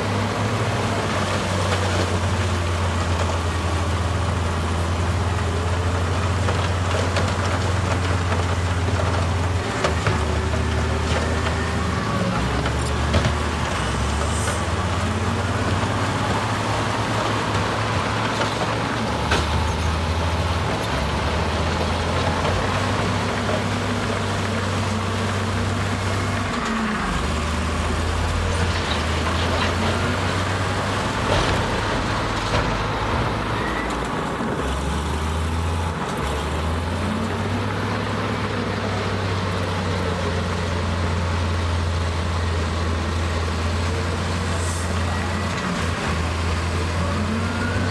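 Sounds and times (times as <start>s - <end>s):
heavy diesel engine running: 0.0s - 47.9s.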